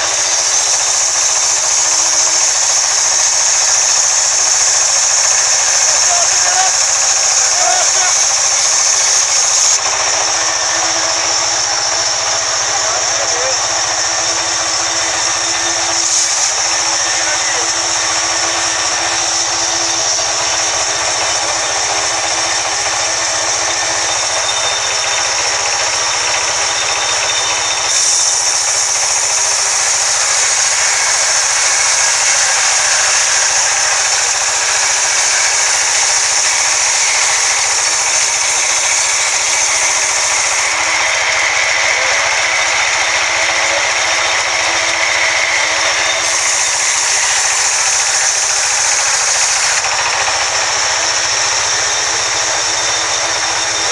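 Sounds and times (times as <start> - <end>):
band saw cutting through log: 0.0 - 53.9.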